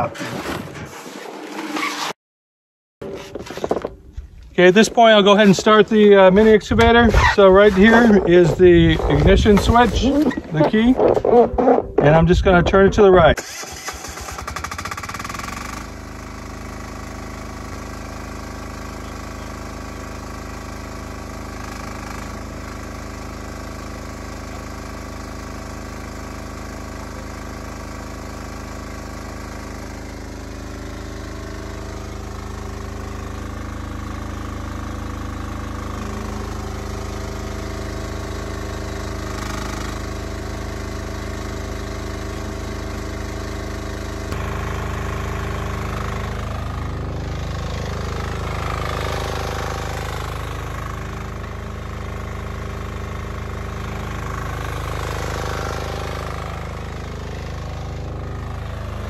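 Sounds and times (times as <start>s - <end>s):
excavator engine running: 3.0s - 59.0s.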